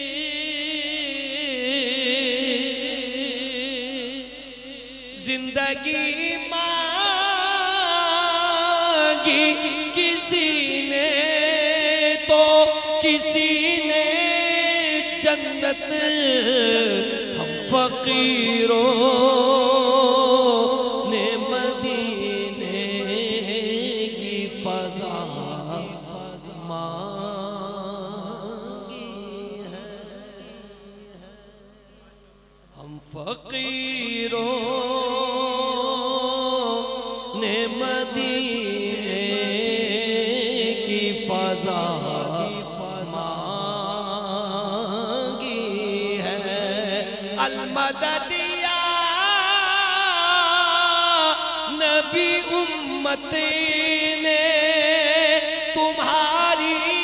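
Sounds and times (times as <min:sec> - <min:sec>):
man chanting through microphone: 0:00.0 - 0:57.0.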